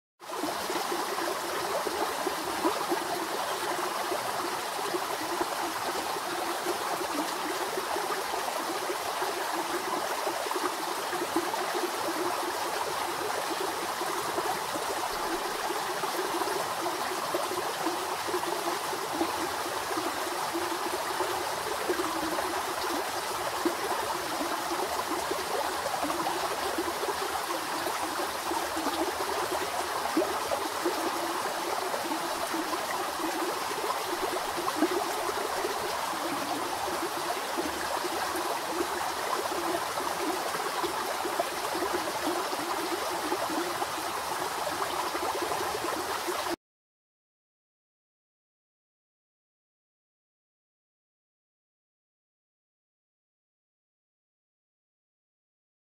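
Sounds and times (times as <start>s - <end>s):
stream cascading over rocks: 0.3s - 46.6s.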